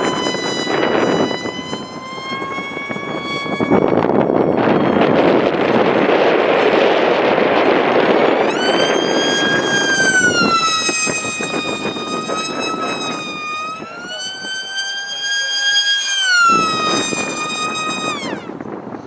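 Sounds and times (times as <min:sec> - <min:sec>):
propeller motor whine: 0:00.0 - 0:19.0
wind noise on microphone: 0:00.0 - 0:19.0.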